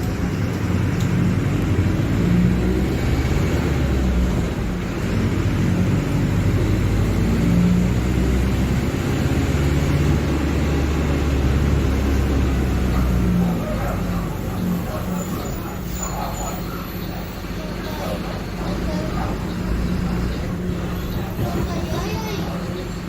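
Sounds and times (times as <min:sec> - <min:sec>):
bus diesel engine humming: 0:00.0 - 0:23.0.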